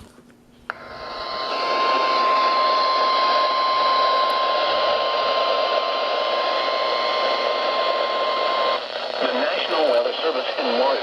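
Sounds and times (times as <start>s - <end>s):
steady warning alarm tone: 0.7s - 11.0s
radio hiss: 0.8s - 11.0s.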